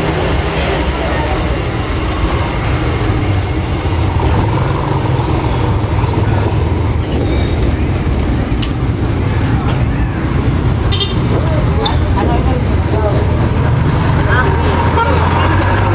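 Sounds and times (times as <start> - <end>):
motor vehicle rumbling: 0.0 - 15.9
road noise: 0.0 - 15.9.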